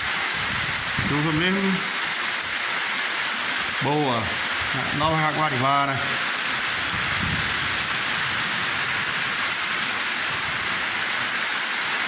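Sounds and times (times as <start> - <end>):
heavy rain on a flooded street: 0.0 - 12.0.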